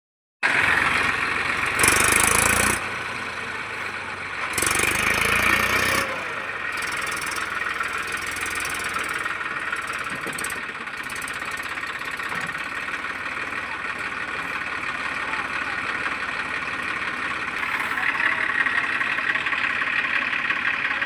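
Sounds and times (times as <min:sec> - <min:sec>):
tractor diesel engine running: 0:00.4 - 0:21.0.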